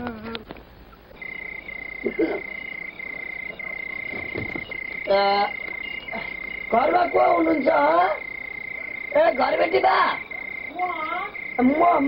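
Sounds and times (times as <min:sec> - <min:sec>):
high-pitched trill: 0:01.2 - 0:12.0.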